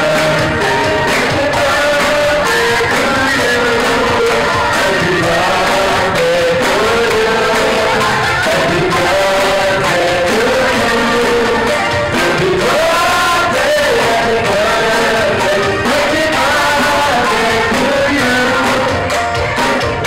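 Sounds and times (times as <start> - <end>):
music with voices singing: 0.0 - 20.0.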